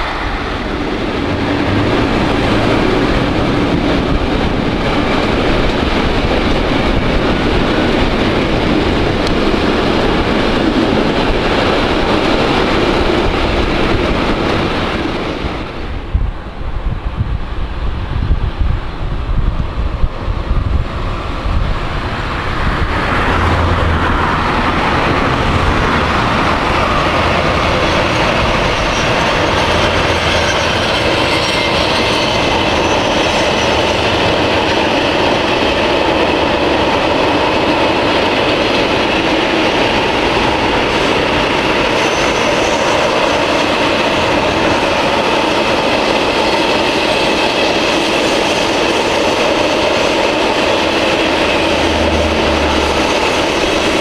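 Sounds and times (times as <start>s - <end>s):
freight train wheels rumbling: 0.0s - 54.0s
wind buffeting microphone: 0.0s - 54.0s.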